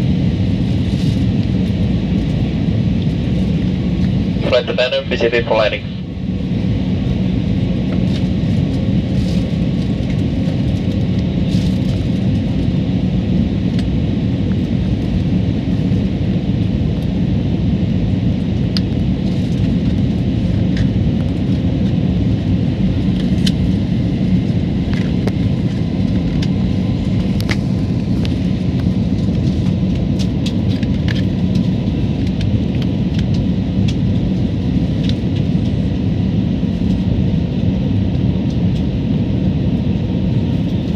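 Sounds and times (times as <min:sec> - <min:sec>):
airliner cabin engine rumble: 0:00.0 - 0:40.9
constant low hum: 0:00.0 - 0:40.9.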